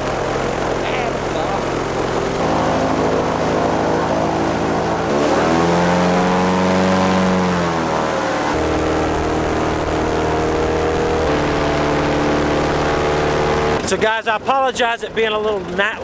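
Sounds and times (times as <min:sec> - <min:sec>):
airboat engine and propeller: 0:00.0 - 0:16.0.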